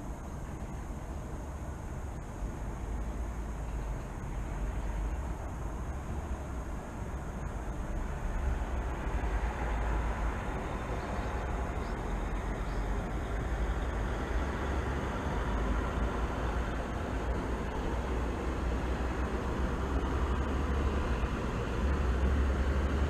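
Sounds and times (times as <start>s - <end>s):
distant city traffic rumble: 0.0s - 23.0s.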